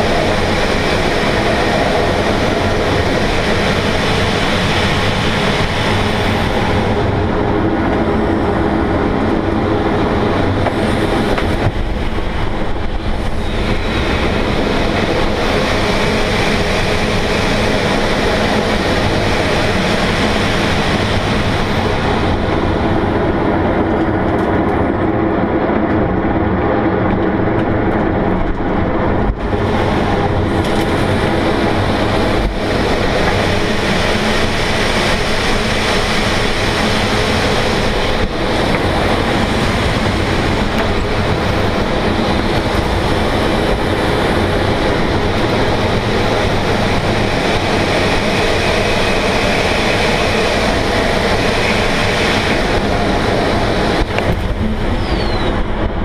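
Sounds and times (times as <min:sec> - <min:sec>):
air rushing past glider cockpit: 0:00.0 - 0:56.0.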